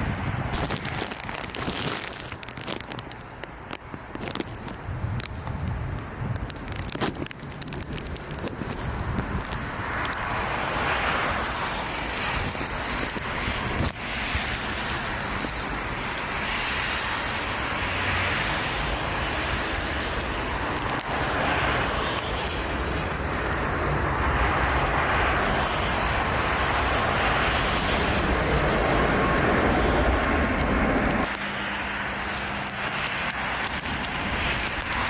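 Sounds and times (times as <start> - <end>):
jet airliner engine noise: 0.0 - 1.5, 3.1 - 35.0
wind buffeting microphone: 0.0 - 35.0.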